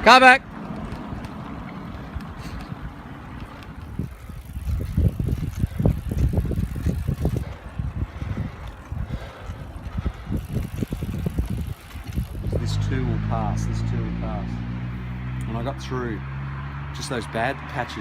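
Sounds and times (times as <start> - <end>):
wind buffeting microphone: 0.4 - 15.4.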